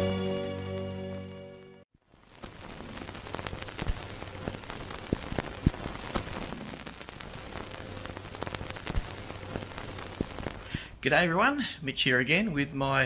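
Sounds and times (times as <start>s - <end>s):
crackle and hiss with pops: 0.0s - 13.0s.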